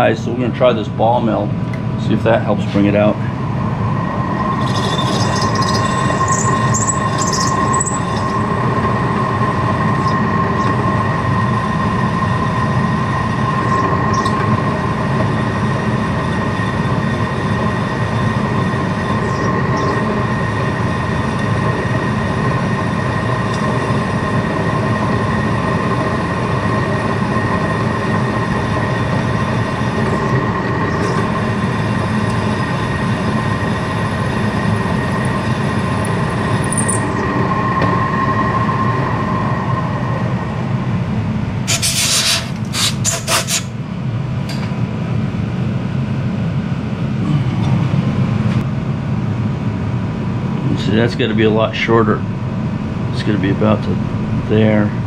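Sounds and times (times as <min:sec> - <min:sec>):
milling machine whining: 0:00.0 - 0:48.7.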